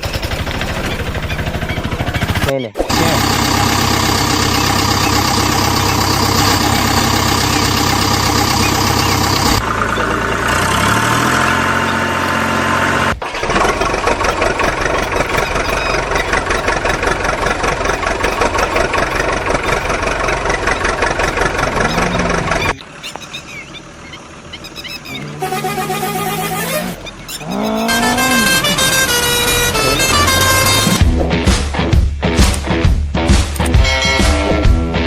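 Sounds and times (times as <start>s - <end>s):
vehicle engine revving: 0.0s - 31.2s.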